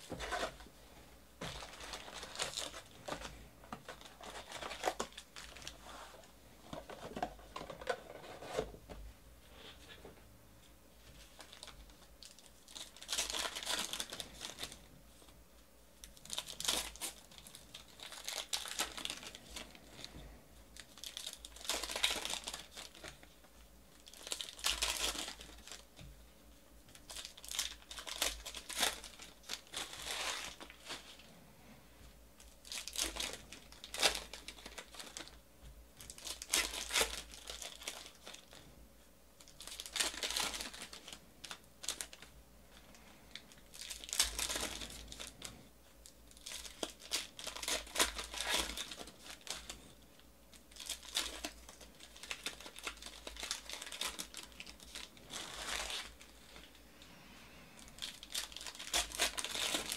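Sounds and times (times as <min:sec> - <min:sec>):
card pack wrappers tearing and crinkling: 0:00.0 - 0:00.7, 0:01.4 - 0:08.6, 0:11.2 - 0:15.3, 0:16.0 - 0:26.0, 0:26.9 - 0:31.3, 0:32.4 - 0:35.4, 0:36.0 - 0:38.7, 0:39.4 - 0:56.8, 0:57.8 - 0:59.9.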